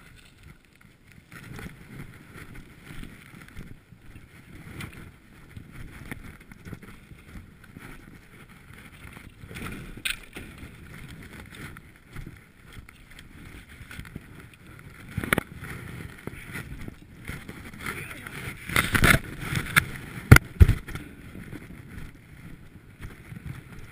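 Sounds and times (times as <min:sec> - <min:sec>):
gusty wind on microphone: 0:00.0 - 0:23.9.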